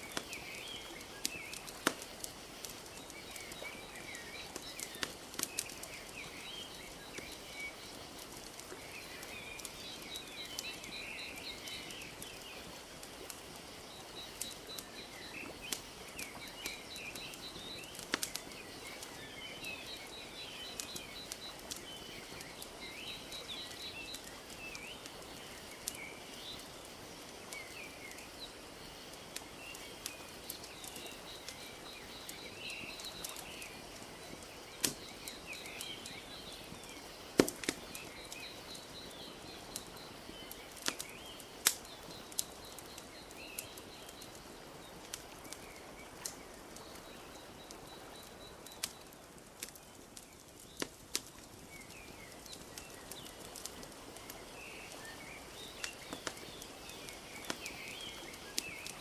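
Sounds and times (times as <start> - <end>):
small birds chirping: 0.0 - 59.0
wood fire crackling: 0.0 - 59.0.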